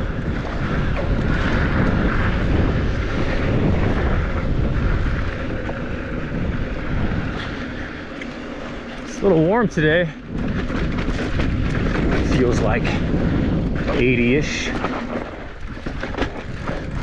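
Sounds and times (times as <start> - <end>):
bike tyres rolling over dirt: 0.0 - 17.0
wind rushing over microphone: 0.0 - 17.0.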